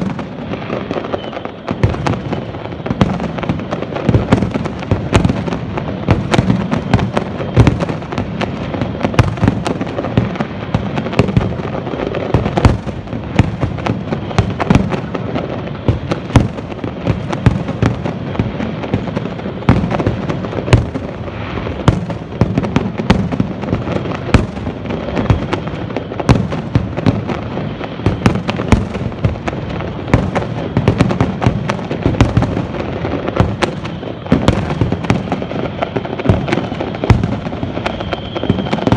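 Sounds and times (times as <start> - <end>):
continuous fireworks rumble: 0.0 - 38.9.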